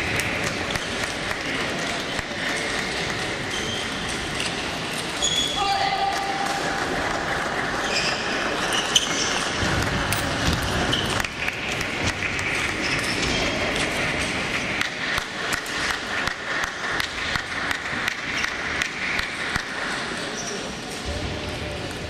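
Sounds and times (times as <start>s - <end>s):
ping-pong balls clicking: 0.0s - 5.3s, 6.4s - 20.2s.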